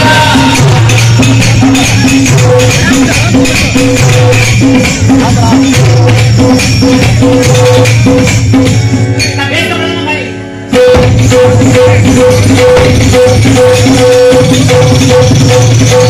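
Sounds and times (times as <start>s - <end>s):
hand drums fast rhythm: 0.0s - 9.4s, 10.8s - 16.0s.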